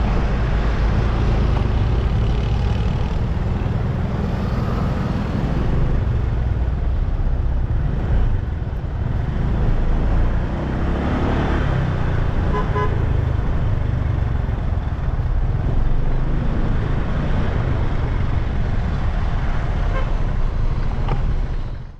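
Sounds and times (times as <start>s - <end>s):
motorbike road rumble: 0.0s - 21.9s
wind: 0.0s - 21.9s.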